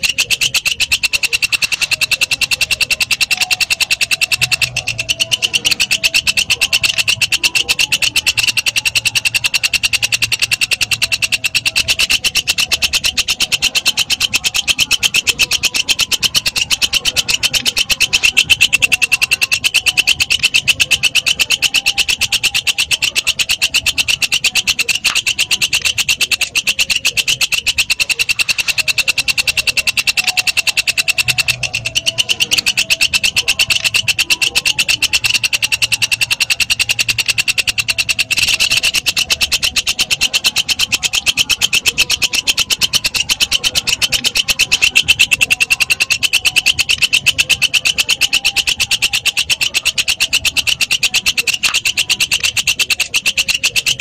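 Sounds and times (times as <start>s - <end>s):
bush cricket calling: 0.0s - 54.0s.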